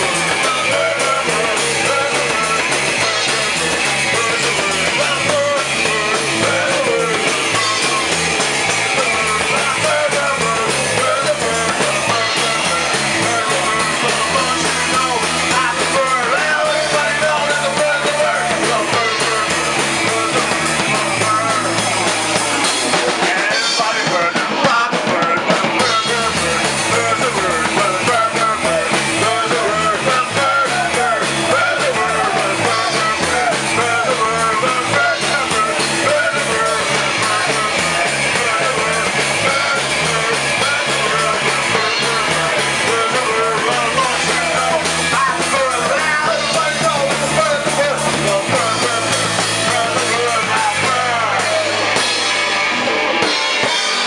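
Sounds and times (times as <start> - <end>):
punk rock band playing: 0.0 - 54.0.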